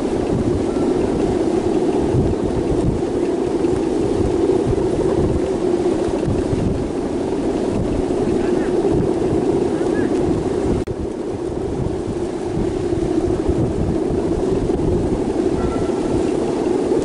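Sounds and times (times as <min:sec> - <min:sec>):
constant low drone: 0:00.0 - 0:17.0
wind buffeting microphone: 0:00.0 - 0:17.0.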